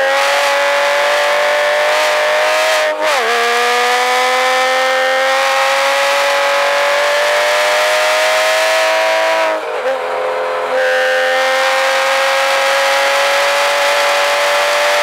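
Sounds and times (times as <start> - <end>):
car engine under hard throttle: 0.0 - 15.0.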